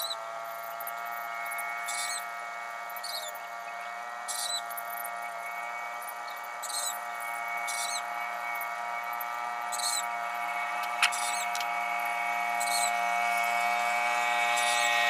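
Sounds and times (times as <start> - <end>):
small birds chirping: 0.0 - 15.0
steady many-toned hum: 0.0 - 15.0.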